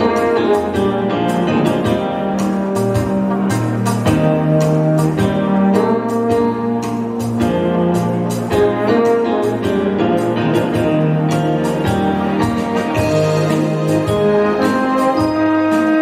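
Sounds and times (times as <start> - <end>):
bass line: 0.0 - 16.0
keyboard chords: 0.0 - 16.0
steady beat: 0.0 - 16.0
trombone melody: 0.0 - 16.0.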